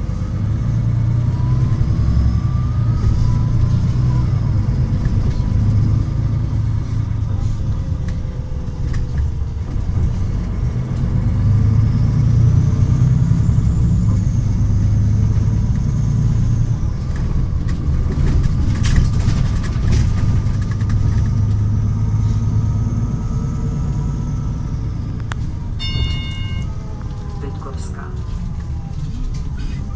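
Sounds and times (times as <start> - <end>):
bus engine rumbling: 0.0 - 29.9.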